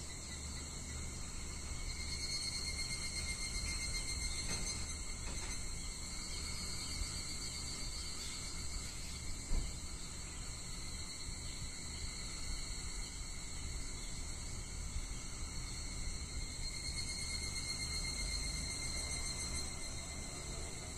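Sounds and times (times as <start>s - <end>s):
cicadas calling: 0.0s - 20.9s.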